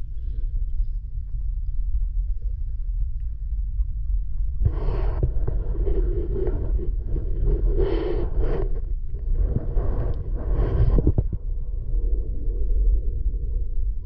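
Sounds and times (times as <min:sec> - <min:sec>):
deep underwater rumble: 0:00.0 - 0:14.0.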